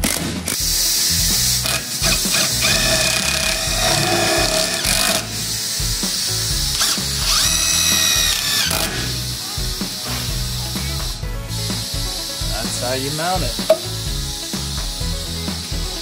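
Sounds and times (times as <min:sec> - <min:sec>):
impact driver whining: 0:00.0 - 0:15.9.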